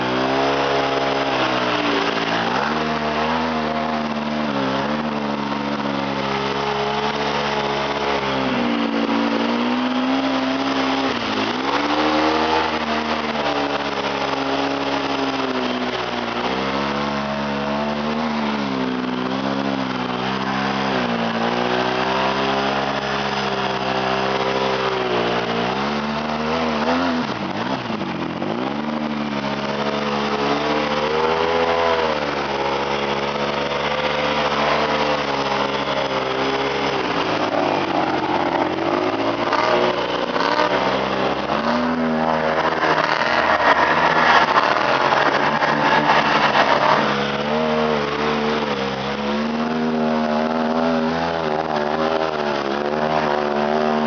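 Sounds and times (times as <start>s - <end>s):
atv engine revving: 0.0s - 54.0s
rushing noise: 0.0s - 54.0s.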